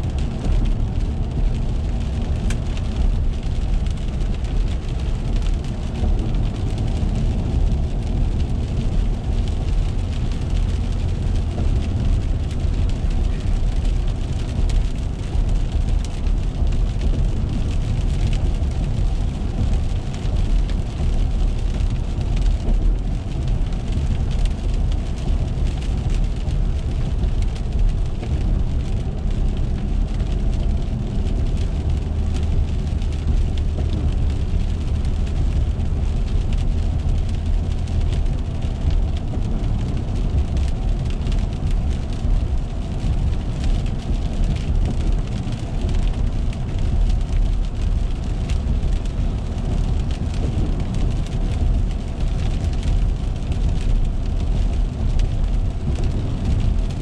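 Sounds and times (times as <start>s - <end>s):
car road and engine rumble: 0.0s - 57.0s
rain striking windshield: 0.0s - 57.0s
tyres hissing on wet road: 0.0s - 57.0s.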